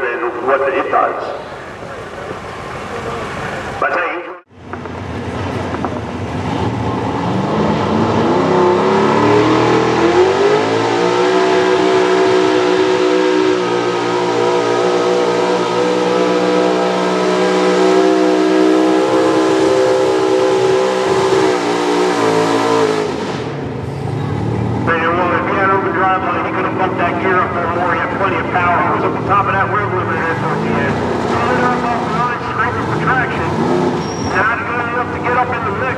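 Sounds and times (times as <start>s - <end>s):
truck engine revving under load: 4.6s - 35.9s.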